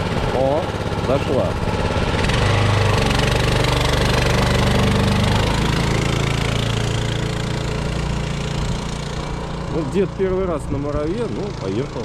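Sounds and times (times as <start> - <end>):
small engine with pulsing beat: 0.0 - 12.0.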